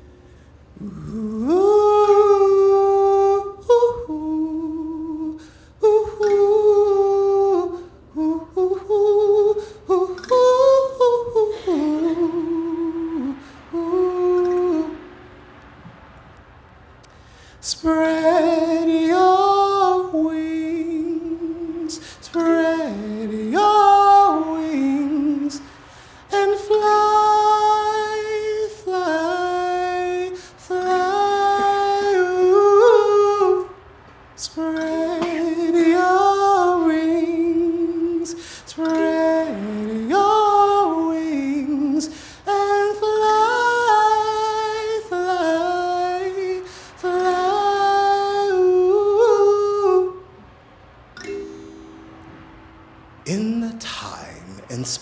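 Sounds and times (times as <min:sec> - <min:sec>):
person singing wordless melody: 0:00.0 - 0:15.4, 0:17.0 - 0:50.6, 0:51.2 - 0:55.0.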